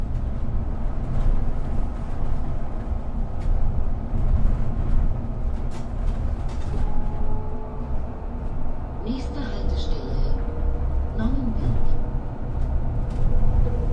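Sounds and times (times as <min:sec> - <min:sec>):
bus engine rumble: 0:00.0 - 0:13.9.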